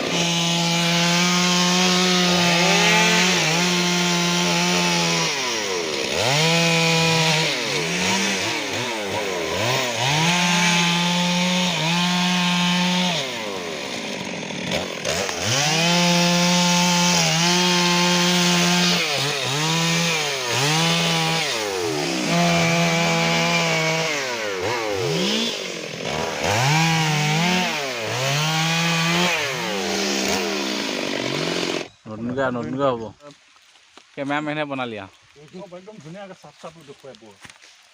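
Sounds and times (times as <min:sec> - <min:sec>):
chainsaw revving while cutting: 0:00.0 - 0:31.9.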